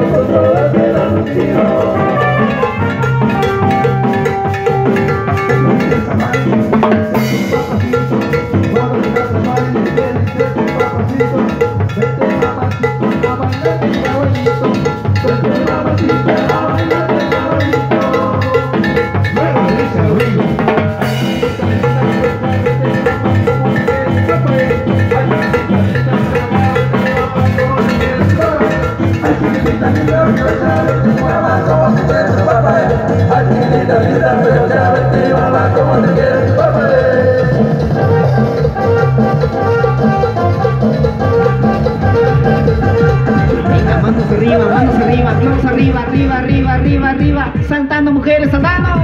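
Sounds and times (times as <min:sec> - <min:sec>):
latin dance band playing: 0:00.0 - 0:49.0.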